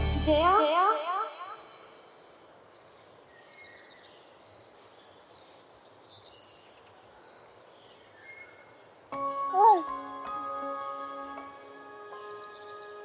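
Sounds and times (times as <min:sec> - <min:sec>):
soft steady hiss: 0:00.0 - 0:13.0
birds chirping: 0:02.2 - 0:13.0.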